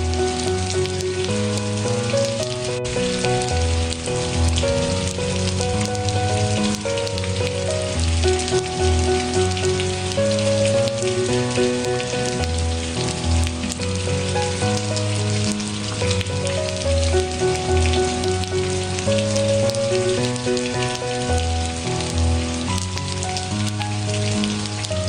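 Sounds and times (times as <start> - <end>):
rain hiss: 0.0 - 25.0
soft background music: 0.0 - 25.0.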